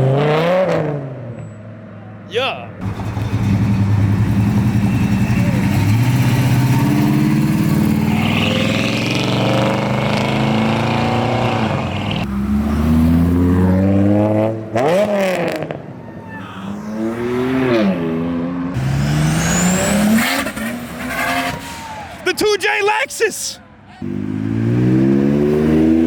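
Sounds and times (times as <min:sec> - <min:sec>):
car engines revving: 0:02.8 - 0:22.2, 0:24.0 - 0:26.0.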